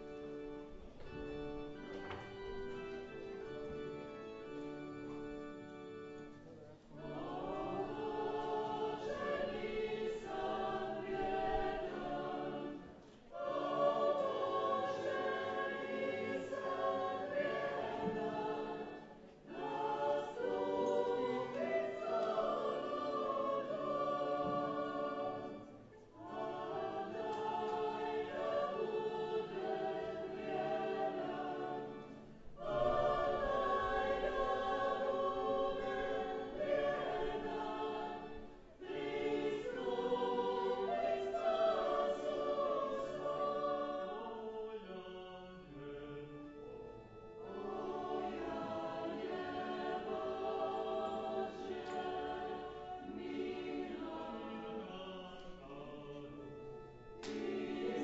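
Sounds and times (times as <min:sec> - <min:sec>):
choir singing a hymn: 0:00.0 - 0:06.3, 0:06.9 - 0:58.0.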